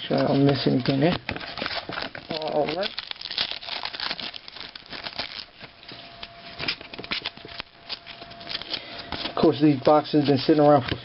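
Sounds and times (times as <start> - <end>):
wrapper crinkling: 0.0 - 10.6
trading cards being handled: 0.0 - 11.0.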